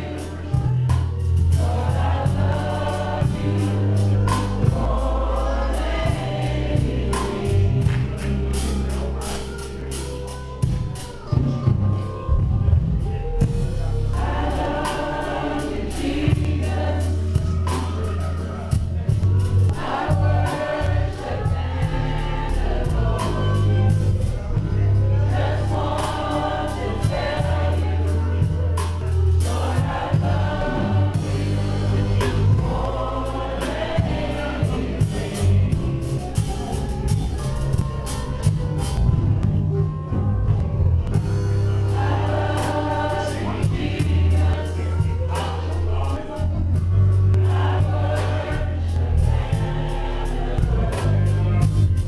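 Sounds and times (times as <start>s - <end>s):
drum hits: 0.0s - 9.4s, 10.6s - 40.0s, 41.2s - 45.7s
gospel choir singing: 0.0s - 39.5s, 41.1s - 52.0s
band playing: 0.0s - 52.0s
heavy bass line: 0.0s - 52.0s.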